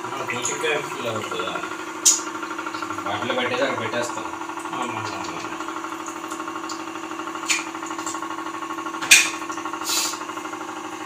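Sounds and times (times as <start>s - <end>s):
water purifier pump humming: 0.0s - 11.0s.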